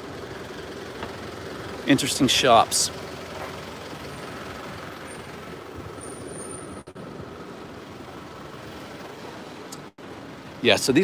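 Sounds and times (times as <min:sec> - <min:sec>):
low hum of traffic: 0:00.0 - 0:11.0.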